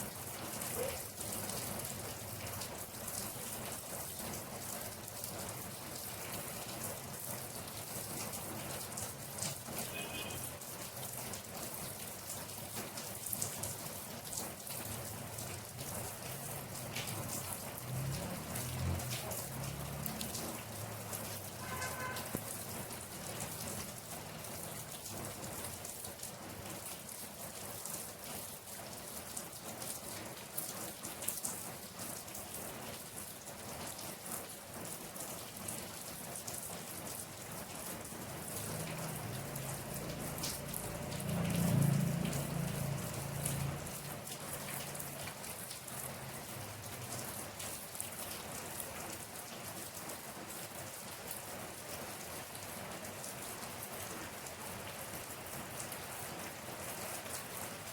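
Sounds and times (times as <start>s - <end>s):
rain falling: 0.0s - 57.9s.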